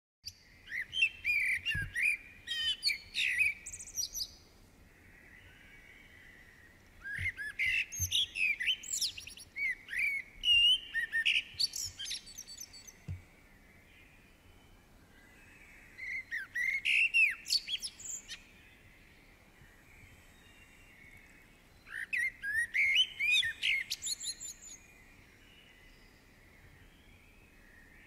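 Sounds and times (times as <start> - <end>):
songbirds singing: 0.2 - 28.0.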